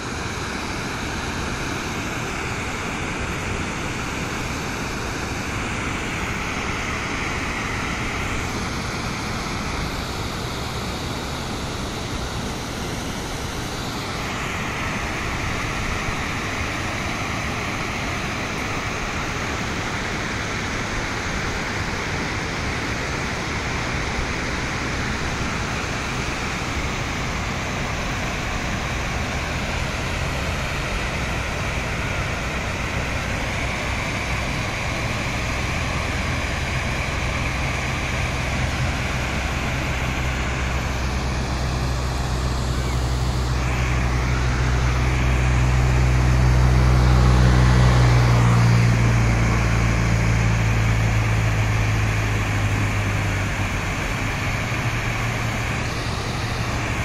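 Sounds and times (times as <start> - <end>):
water pouring over a dam: 0.0 - 57.0
water running through rapids: 0.0 - 57.0.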